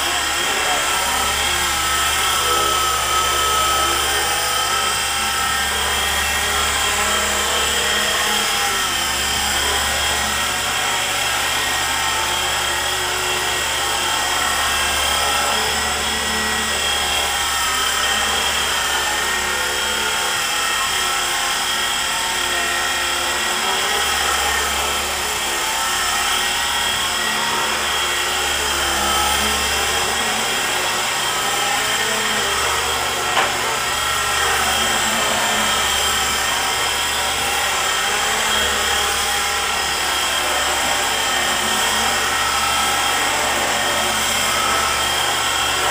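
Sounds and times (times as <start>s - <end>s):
rc helicopter motor whine: 0.0s - 45.9s.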